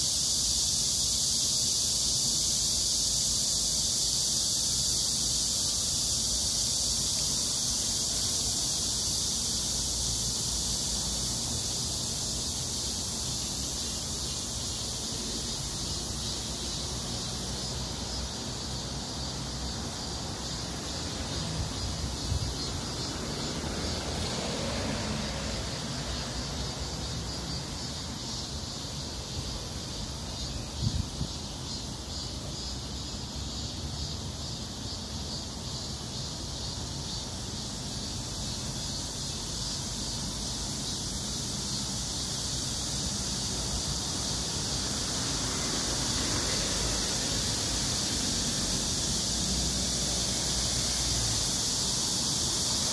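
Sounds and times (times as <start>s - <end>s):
insects chorus pulsing: 0.0s - 52.9s.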